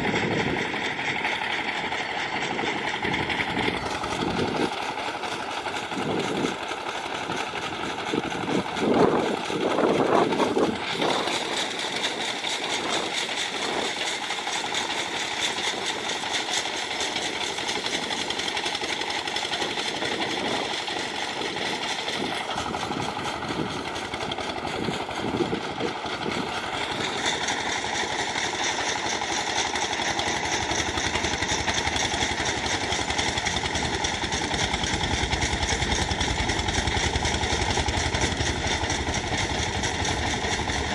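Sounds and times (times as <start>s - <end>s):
threshing machine engine running: 0.0s - 40.9s.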